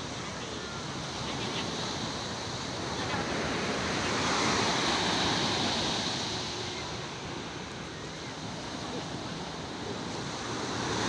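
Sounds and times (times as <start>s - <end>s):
sea waves breaking: 0.0s - 11.0s.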